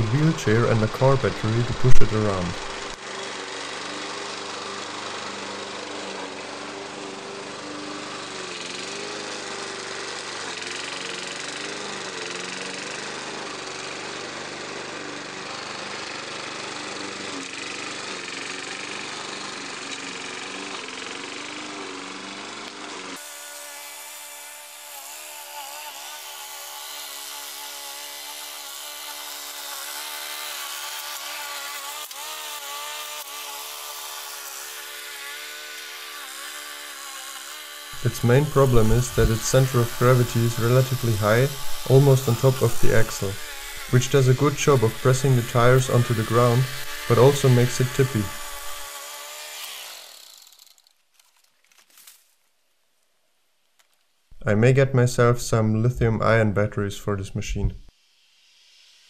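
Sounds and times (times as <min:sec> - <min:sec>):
lawn mower engine running: 0:00.0 - 0:50.8.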